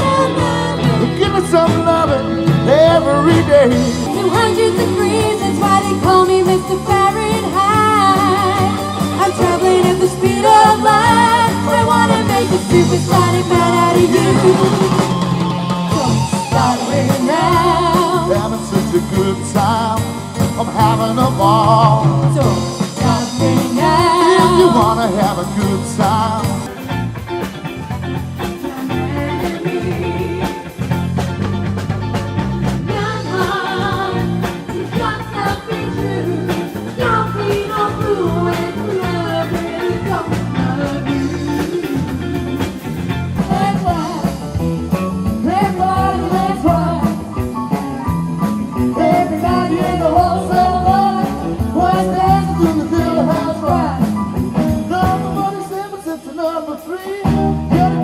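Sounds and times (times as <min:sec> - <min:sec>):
rock music with singing: 0:00.0 - 0:58.0.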